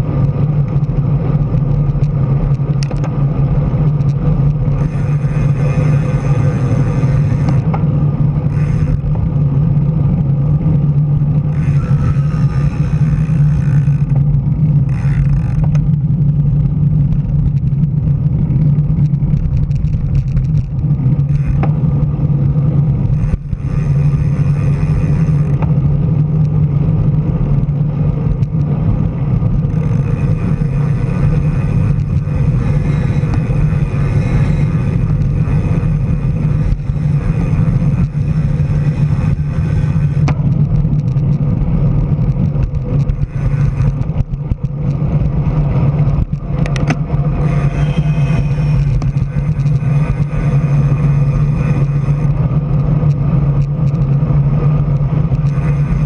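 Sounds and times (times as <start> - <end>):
bike tyre road noise: 0.0 - 56.0
wind rumble on microphone: 0.0 - 56.0.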